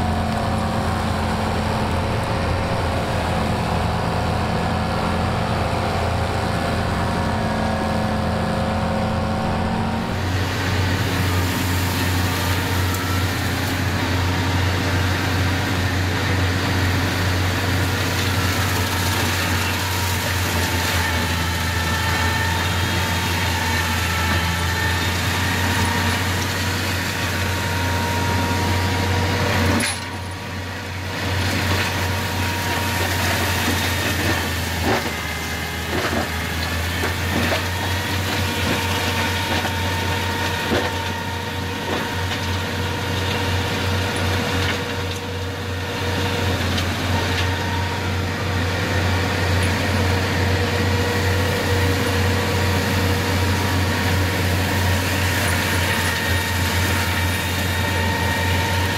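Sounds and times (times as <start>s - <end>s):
mulcher rotor whine: 0.0s - 58.9s
tractor diesel engine running: 0.0s - 58.9s.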